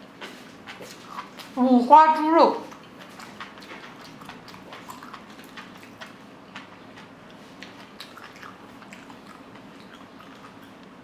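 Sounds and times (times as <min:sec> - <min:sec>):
person chewing: 0:00.0 - 0:01.6, 0:02.2 - 0:11.0.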